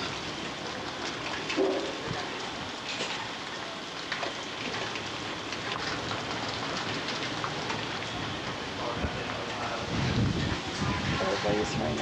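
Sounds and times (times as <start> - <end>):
heavy rain: 0.0 - 12.0
raindrop hits: 0.0 - 12.0.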